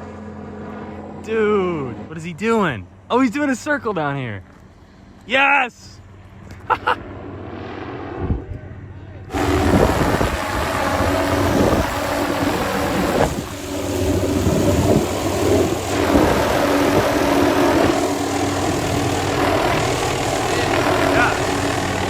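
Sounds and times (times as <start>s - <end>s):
constant hum: 0.0s - 22.0s
helicopter engine and rotors drone: 0.0s - 22.0s.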